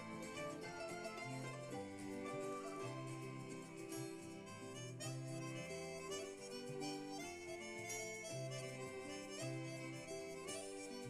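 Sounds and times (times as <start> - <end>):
reed instrument melody: 0.0 - 11.0.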